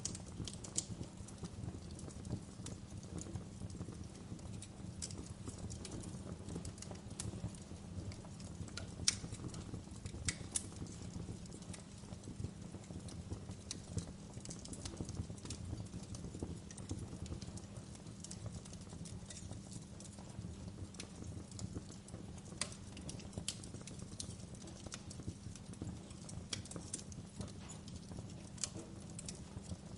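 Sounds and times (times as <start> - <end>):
low rumble of flames: 0.0 - 29.9
wood fire crackling and popping: 0.0 - 29.9.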